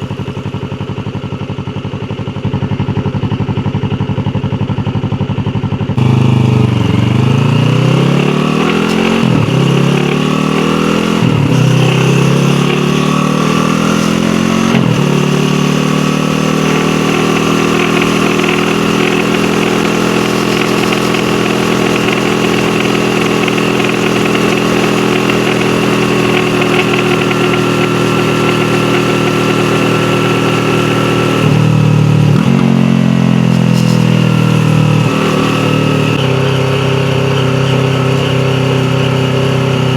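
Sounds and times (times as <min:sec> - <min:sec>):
motorcycle engine upshifting: 0:00.0 - 0:39.9
road noise: 0:00.0 - 0:39.9.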